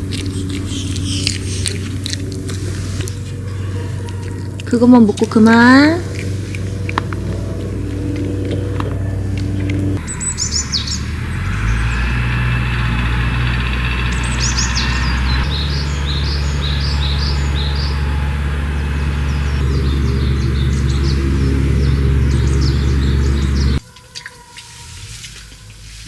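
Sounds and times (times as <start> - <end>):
steady low hum: 0.0 - 23.8
birds chirping: 0.0 - 25.0.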